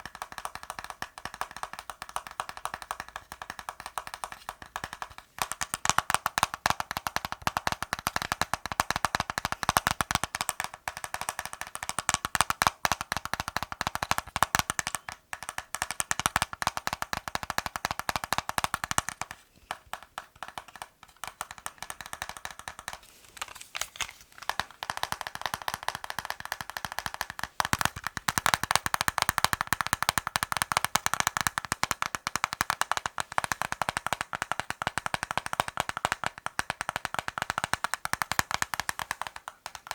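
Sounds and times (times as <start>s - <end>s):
fingers tapping on hard objects: 0.0s - 39.9s.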